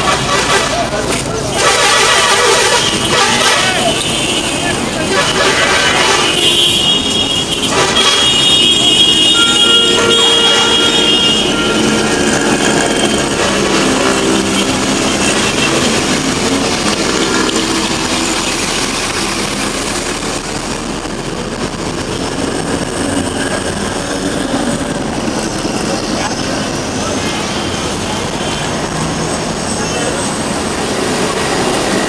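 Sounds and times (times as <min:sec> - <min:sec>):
vehicle engines running: 0:00.0 - 0:32.0.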